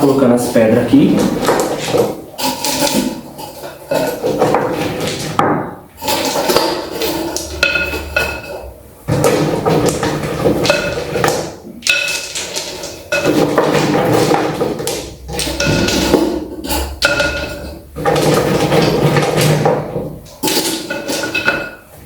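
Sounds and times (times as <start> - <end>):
stones clattering onto a pot: 1.2 - 21.9.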